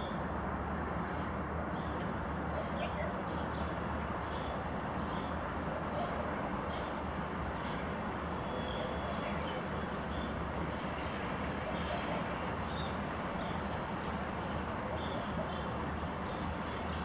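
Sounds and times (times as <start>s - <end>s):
distant traffic rumble: 0.1s - 17.0s.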